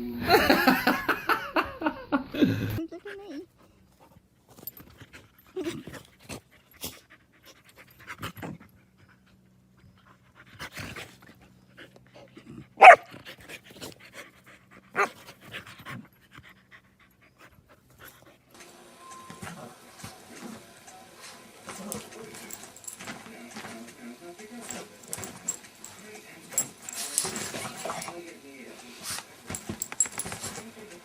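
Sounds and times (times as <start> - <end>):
dog panting: 2.8 - 18.6, 19.5 - 30.7.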